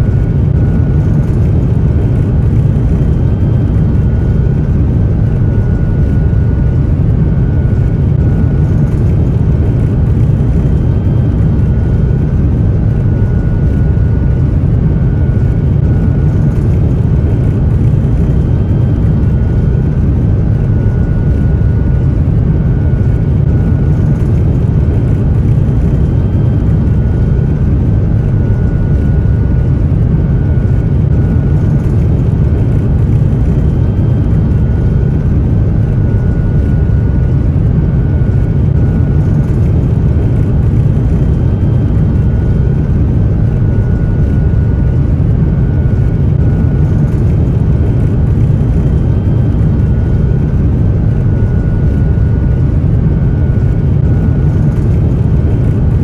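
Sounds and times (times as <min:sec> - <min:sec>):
jet engine low rumble: 0:00.0 - 0:56.0.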